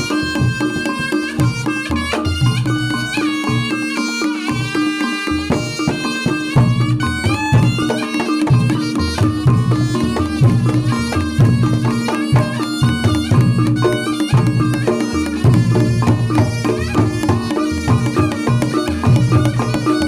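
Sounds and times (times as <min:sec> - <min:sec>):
fast hand drumming: 0:00.0 - 0:20.0
reedy shawm melody: 0:00.0 - 0:20.0.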